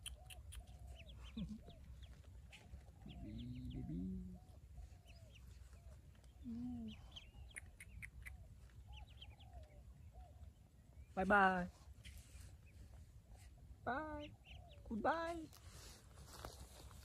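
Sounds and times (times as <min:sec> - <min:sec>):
ducklings peeping: 0:00.0 - 0:11.2, 0:11.9 - 0:15.1.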